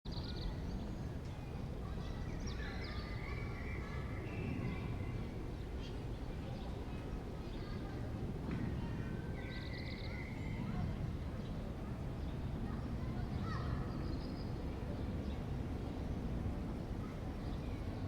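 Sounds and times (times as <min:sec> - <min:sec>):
distant city rumble: 0:00.1 - 0:18.0.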